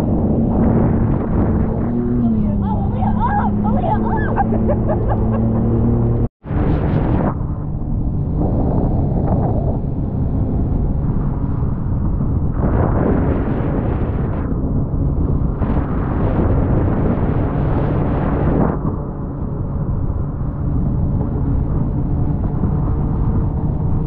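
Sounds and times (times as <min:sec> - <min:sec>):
jet ski engine drone: 0:00.0 - 0:24.0
wind buffeting microphone: 0:00.0 - 0:24.0.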